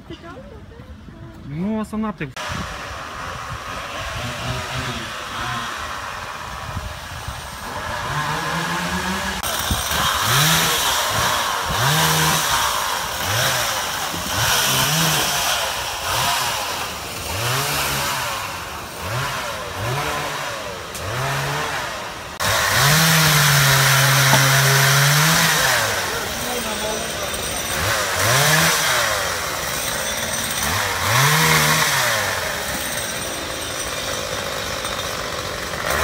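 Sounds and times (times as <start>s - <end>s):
chainsaw revving: 2.4s - 36.0s.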